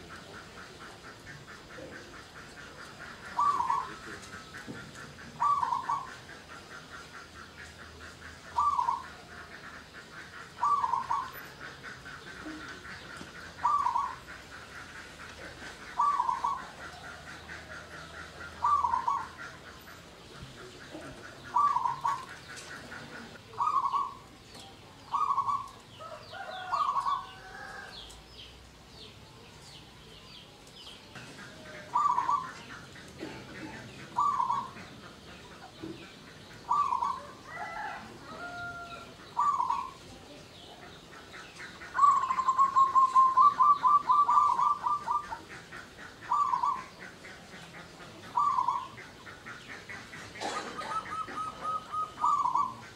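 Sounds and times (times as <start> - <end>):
dove cooing: 0.0 - 28.1, 31.1 - 52.9.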